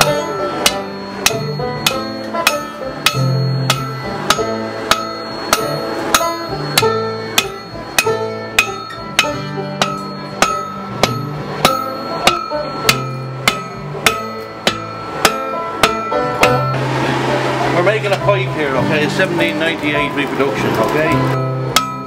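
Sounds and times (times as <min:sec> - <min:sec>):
background music: 0:00.0 - 0:22.0
hammer striking metal on anvil: 0:00.0 - 0:22.0.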